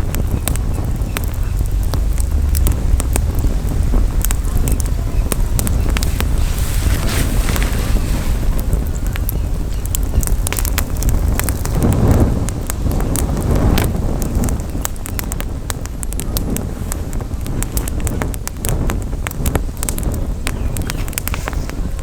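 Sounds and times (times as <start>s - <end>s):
campfire crackling and popping: 0.0s - 22.0s
wind rumble on microphone: 0.0s - 22.0s.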